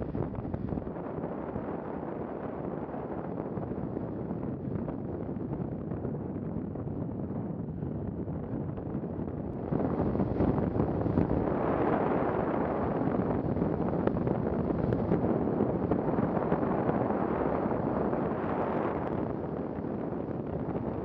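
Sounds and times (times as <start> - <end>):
wind rushing on microphone: 0.0 - 21.0.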